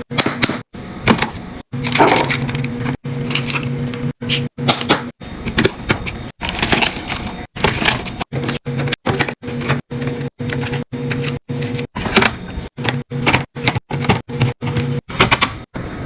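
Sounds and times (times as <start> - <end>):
plastic containers clicking and crinkling: 1.1 - 3.8, 4.7 - 15.6.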